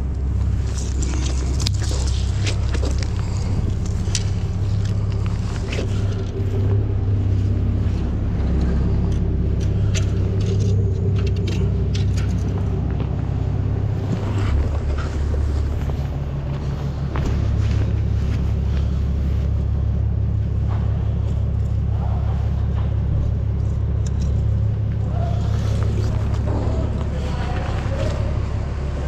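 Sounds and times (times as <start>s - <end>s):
low hum: 0.0s - 29.0s
low rumble: 0.0s - 29.0s.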